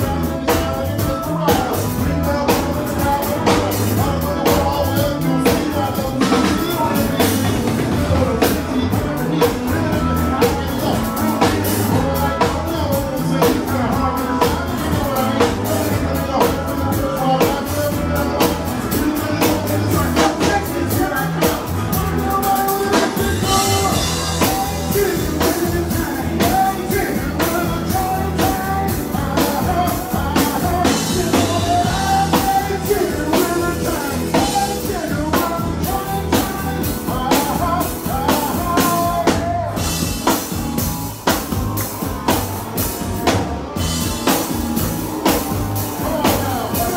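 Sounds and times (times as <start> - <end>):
man singing into microphone: 0.0 - 40.5, 45.2 - 46.9
drum kit beat: 0.0 - 46.9
live country-rock band: 0.0 - 46.9.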